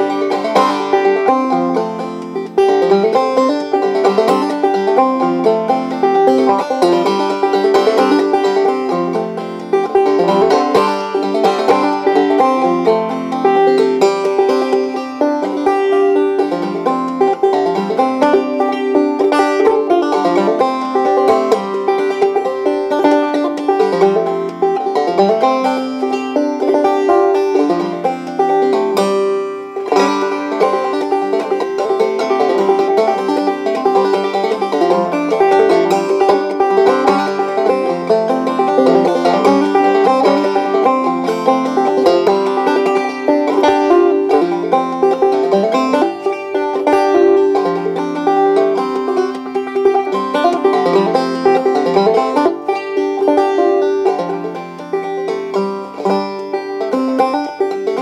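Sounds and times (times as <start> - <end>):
banjo playing old-time tune: 0.0 - 58.0.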